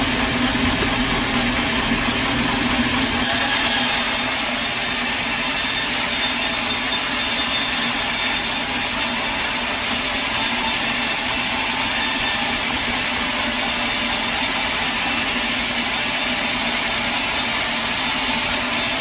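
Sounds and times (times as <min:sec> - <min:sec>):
motor running: 0:00.0 - 0:19.0
saw blade cutting log: 0:00.0 - 0:19.0.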